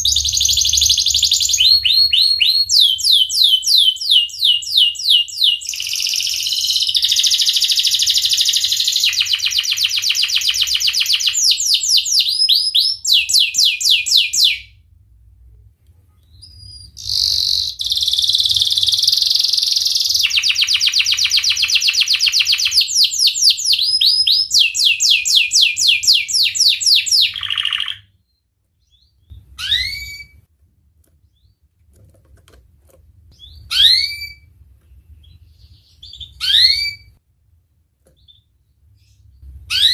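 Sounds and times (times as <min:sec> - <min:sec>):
canary singing trills: 0:00.0 - 0:14.7, 0:16.2 - 0:30.4, 0:33.3 - 0:37.2.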